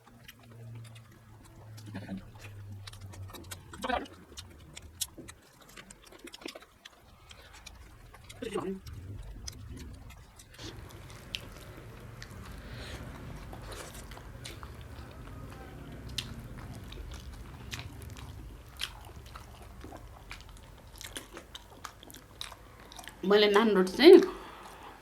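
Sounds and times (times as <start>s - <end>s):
person chewing food: 0.0s - 23.2s, 24.3s - 25.0s
low background rumble: 0.0s - 25.0s
mouth and teeth clicks: 0.1s - 23.2s.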